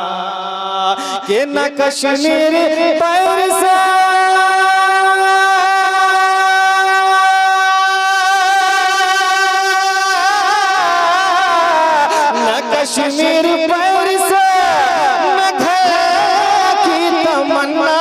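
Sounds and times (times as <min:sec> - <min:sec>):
man singing solo: 0:00.0 - 0:18.0.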